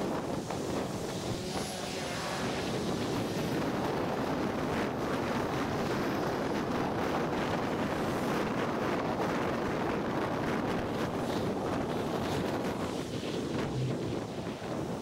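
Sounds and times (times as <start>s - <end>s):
road and traffic noise: 0.0s - 15.0s
wind rush on microphone: 0.0s - 15.0s.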